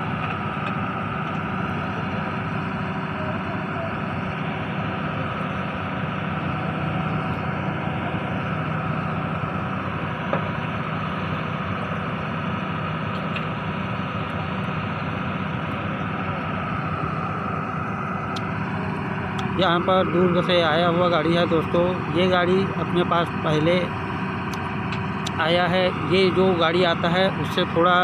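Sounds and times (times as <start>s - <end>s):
drilling rig truck engine running: 0.0s - 28.0s.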